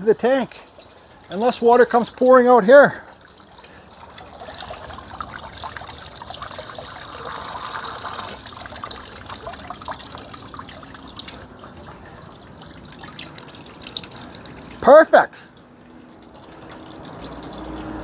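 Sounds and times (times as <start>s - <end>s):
water trickling down fountain: 0.0s - 18.0s.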